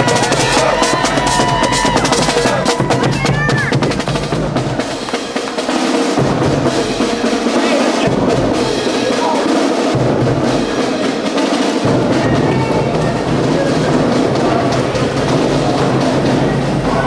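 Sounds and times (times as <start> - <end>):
drum music with snare rolls: 0.0 - 17.0.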